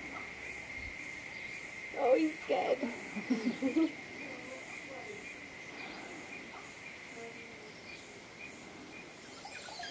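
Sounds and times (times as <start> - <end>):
faint scattered calls: 0.0 - 9.9
insects droning: 0.0 - 9.9
pulsing insect chirping: 0.0 - 9.9.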